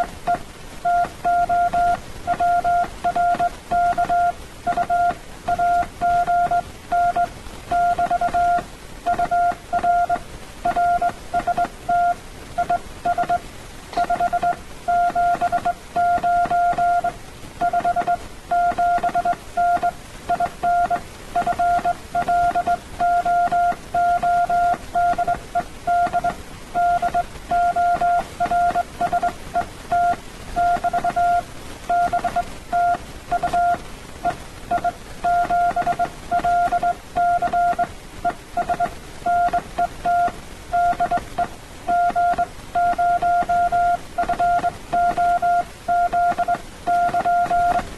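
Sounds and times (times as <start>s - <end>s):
faint hiss: 0.0s - 47.9s
morse code tone: 0.3s - 13.4s, 14.0s - 33.8s, 34.7s - 47.8s.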